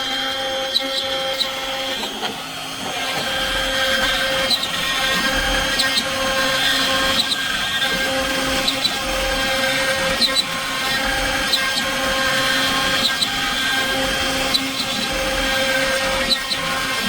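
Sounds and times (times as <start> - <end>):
cnc machine motors whining: 0.0 - 17.0.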